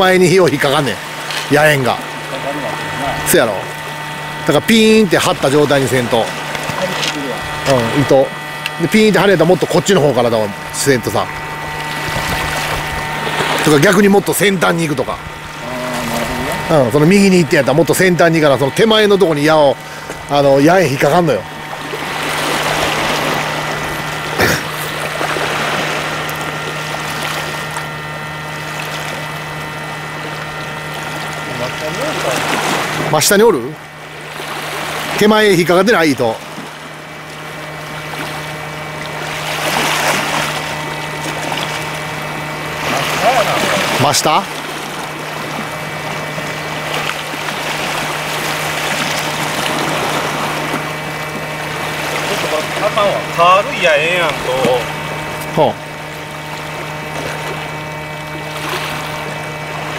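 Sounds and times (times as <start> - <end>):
low hum: 0.0 - 59.9
surf washing on rocky shore: 0.0 - 59.9.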